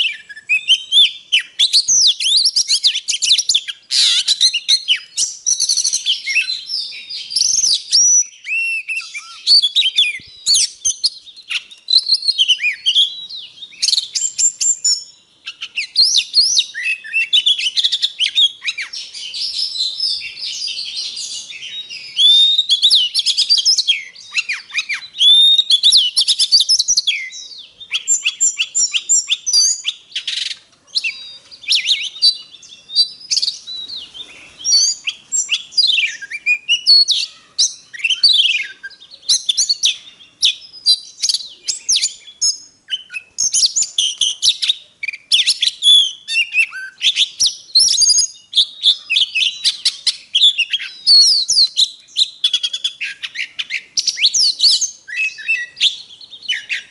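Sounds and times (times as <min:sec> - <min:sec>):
bird singing whistled phrases: 0:00.0 - 0:56.9.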